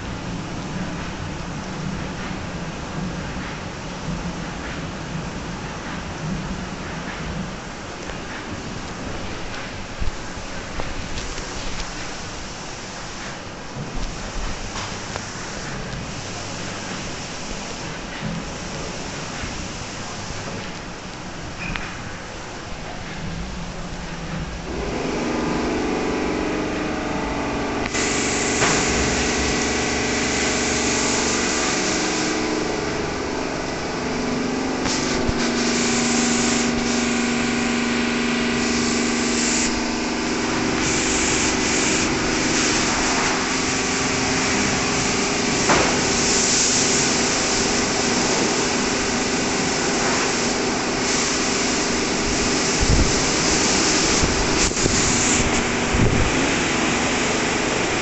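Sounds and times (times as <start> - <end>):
high-pressure water spray hissing: 0.0 - 22.7, 23.6 - 58.0
pump and motor hum: 0.0 - 58.0.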